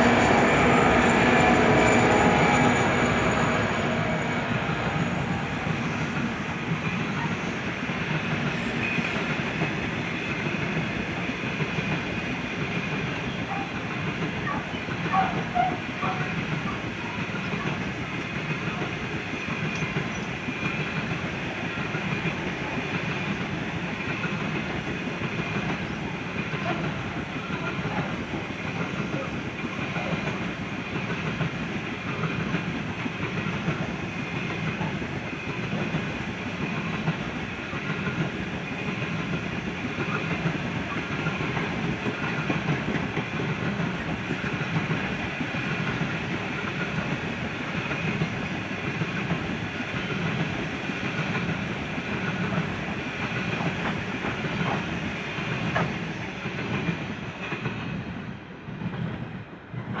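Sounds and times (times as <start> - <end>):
train wheels rumbling on rail: 0.0 - 60.0
rail joints clicking beat: 9.2 - 60.0.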